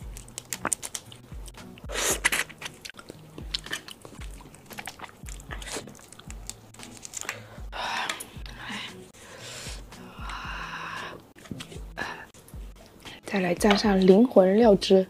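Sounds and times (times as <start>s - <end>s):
prawn shell crackling and squelching: 0.0s - 14.4s.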